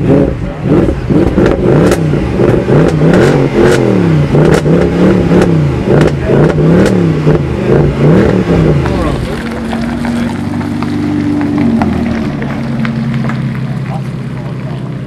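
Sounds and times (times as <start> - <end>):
car engine revving in blips: 0.0 - 15.0
sharp exhaust pops: 0.8 - 14.6.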